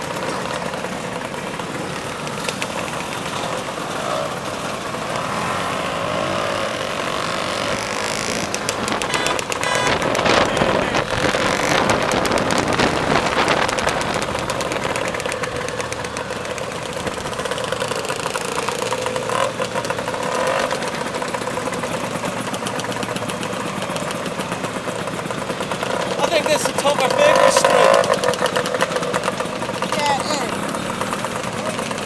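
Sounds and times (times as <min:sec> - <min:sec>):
scooter engines crackling: 0:00.0 - 0:32.0.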